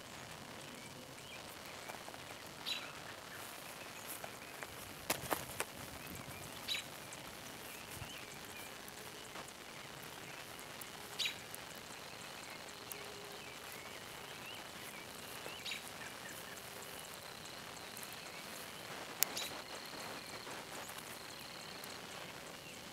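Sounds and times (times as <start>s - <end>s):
birds chirping: 0.0s - 22.9s
fire popping: 0.0s - 22.9s
wood fire crackling: 0.0s - 22.9s.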